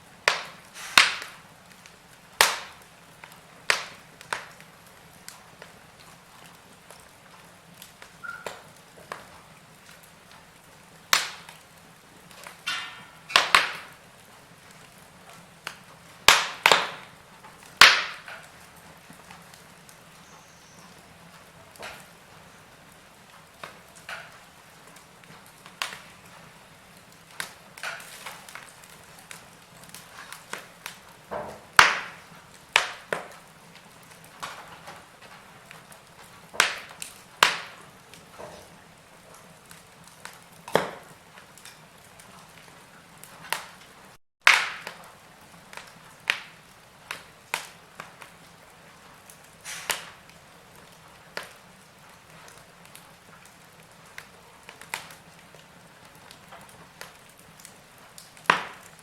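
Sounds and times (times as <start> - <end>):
faint steady fire hiss: 0.0 - 59.0
fire crackling and popping: 0.0 - 59.0.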